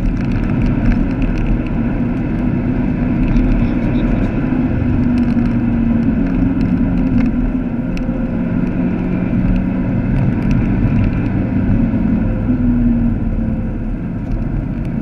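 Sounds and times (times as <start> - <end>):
car engine under load: 0.0 - 15.0
tyre and road noise: 0.0 - 15.0.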